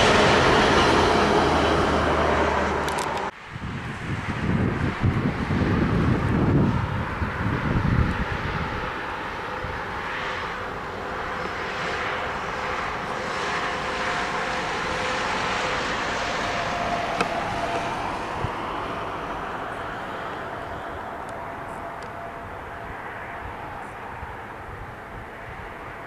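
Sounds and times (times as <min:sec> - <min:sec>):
train passing roar: 0:00.0 - 0:26.0.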